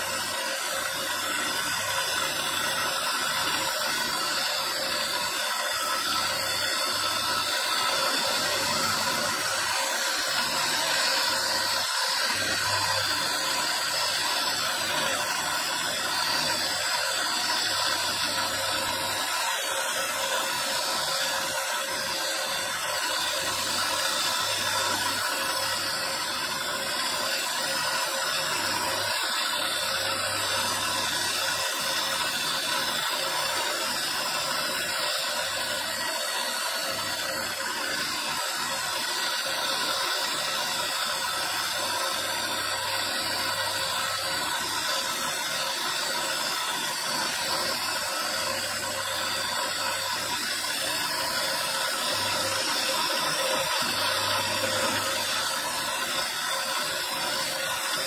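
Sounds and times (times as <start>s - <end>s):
rotary carving tool grinding stone: 0.0s - 58.0s.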